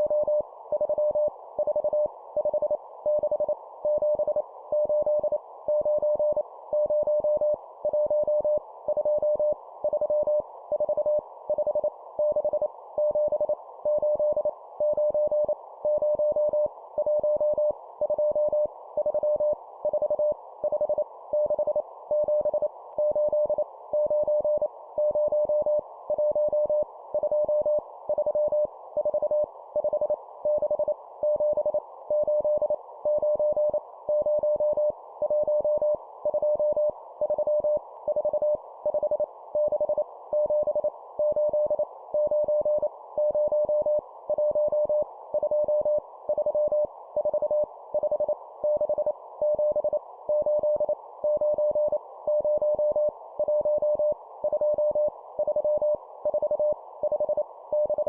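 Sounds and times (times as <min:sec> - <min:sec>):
morse code beeps: 0:00.0 - 0:58.0.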